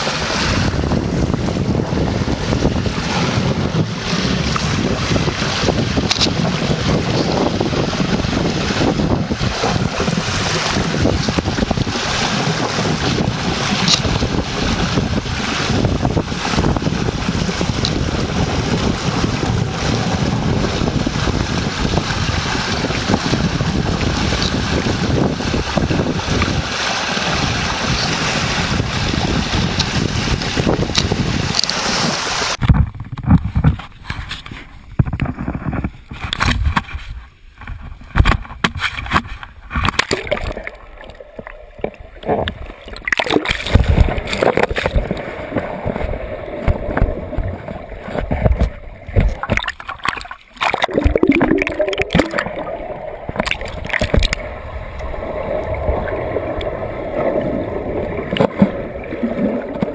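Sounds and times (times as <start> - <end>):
wind buffeting microphone: 0.0 - 41.0, 41.9 - 59.9
rough water rushing: 0.0 - 59.9
water splashing and sloshing: 0.0 - 59.9.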